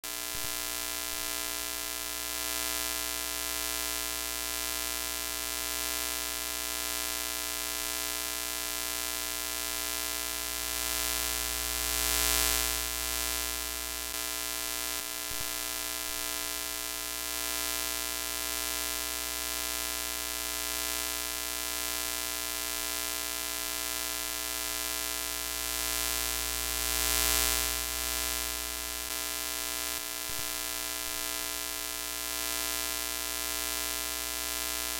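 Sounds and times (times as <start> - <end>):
electrical hum and buzz: 0.1 - 34.9.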